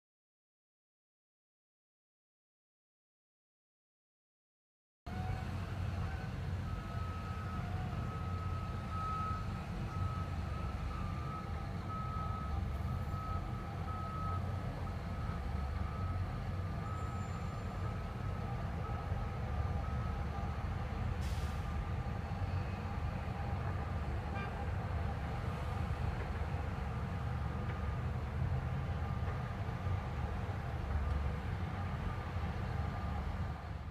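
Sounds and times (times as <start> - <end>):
diesel engines rumbling: 5.1 - 33.9.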